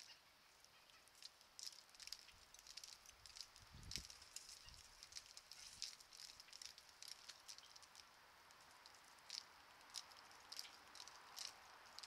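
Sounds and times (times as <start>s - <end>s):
steady low hiss: 0.0s - 12.0s
woodpecker pecking feeder: 0.2s - 12.0s.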